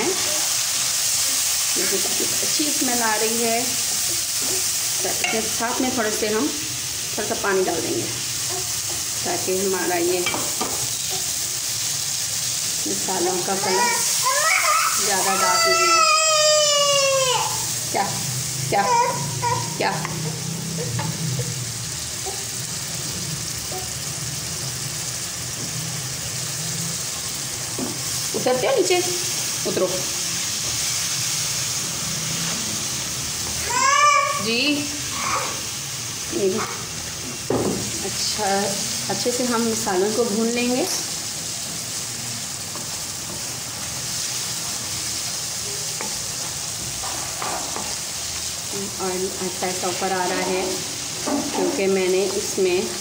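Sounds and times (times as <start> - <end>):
spice paste sizzling in oil: 0.0 - 53.0.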